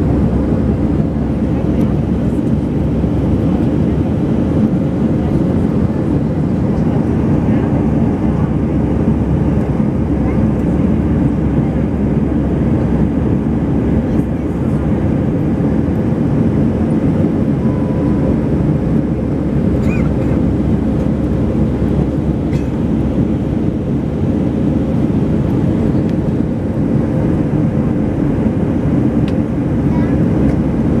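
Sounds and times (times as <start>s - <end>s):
jet engine rumble in cabin: 0.0s - 31.0s
rushing airflow: 0.0s - 31.0s.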